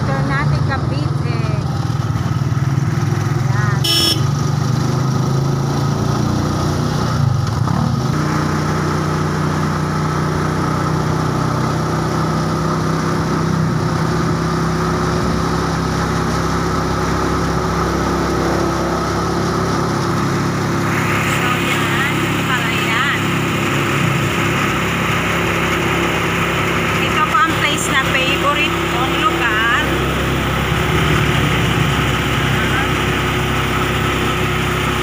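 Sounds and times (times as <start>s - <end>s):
small motorcycle engine running: 0.0s - 35.0s.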